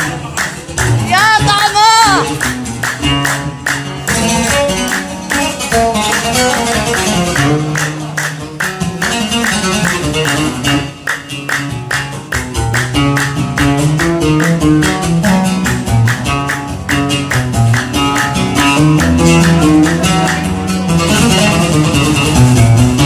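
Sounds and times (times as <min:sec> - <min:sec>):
plucked string melody: 0:00.0 - 0:23.0
steady percussion beat: 0:00.7 - 0:23.0.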